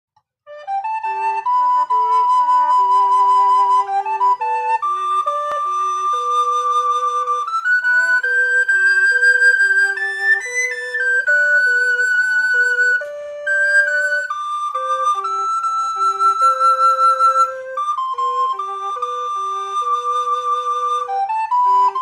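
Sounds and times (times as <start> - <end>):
recorder duet: 0.5 - 22.0.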